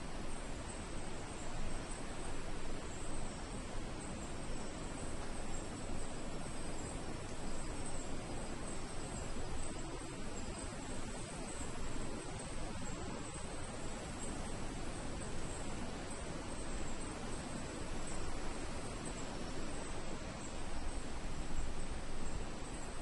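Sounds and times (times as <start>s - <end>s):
background hiss: 0.0s - 23.0s
insects trilling: 0.2s - 23.0s.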